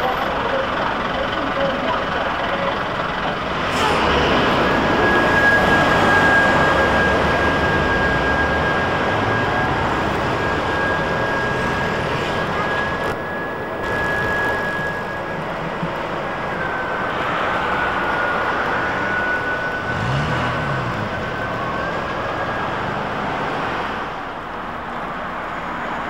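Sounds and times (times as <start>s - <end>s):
street traffic: 0.0s - 26.0s
trolleybus high whine: 0.0s - 26.0s.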